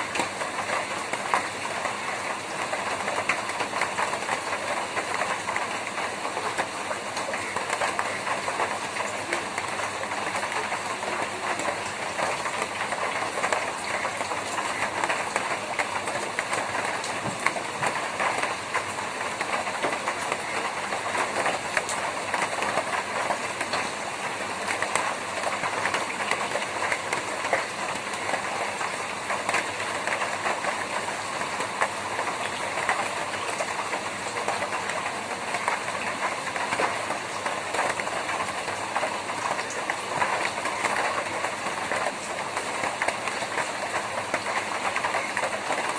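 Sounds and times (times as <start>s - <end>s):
rain on a tin roof: 0.0s - 45.9s.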